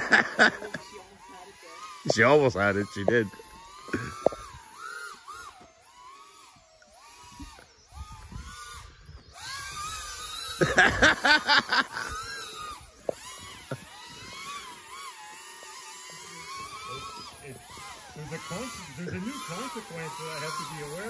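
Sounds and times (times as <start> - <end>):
drone motors whining: 0.0 - 21.0
rapid sharp pulses: 0.0 - 21.0.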